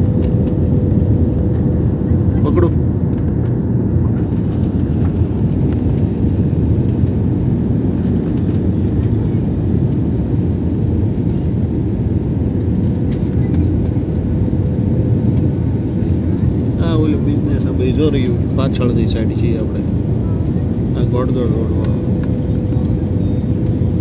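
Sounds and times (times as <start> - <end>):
jet engine rumble: 0.0 - 24.0.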